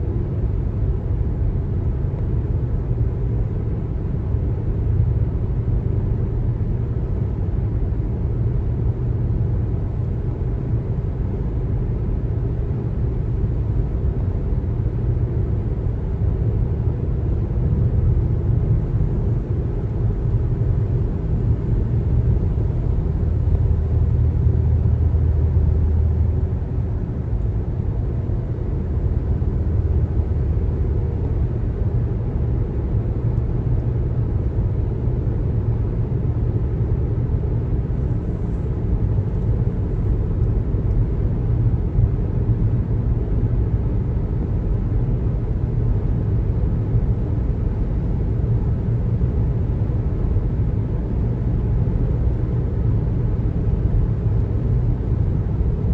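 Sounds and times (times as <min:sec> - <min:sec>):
car tyre and engine rumble: 0:00.0 - 0:55.9.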